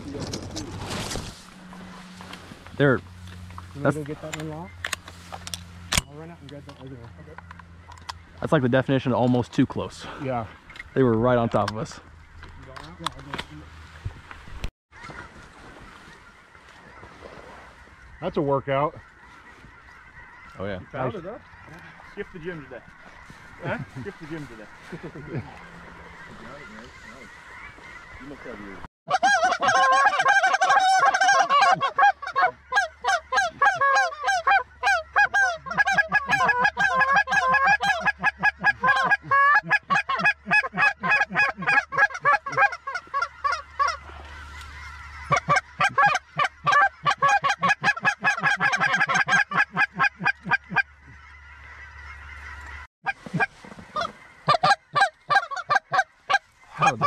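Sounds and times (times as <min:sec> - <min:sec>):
geese cackling: 0:00.0 - 0:57.0.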